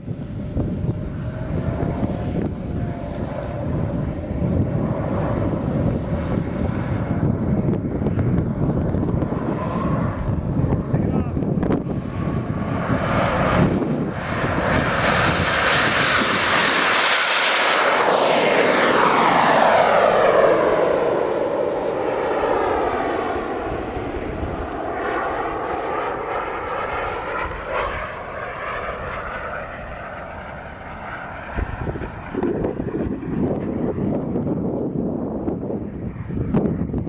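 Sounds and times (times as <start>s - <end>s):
model jet whine: 0.0s - 37.0s
rushing jet noise: 0.0s - 37.0s.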